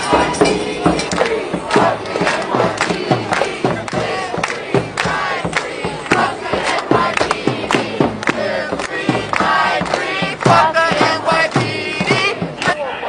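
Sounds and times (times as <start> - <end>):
hand claps: 0.0 - 12.8
crowd chanting in unison: 0.0 - 13.0.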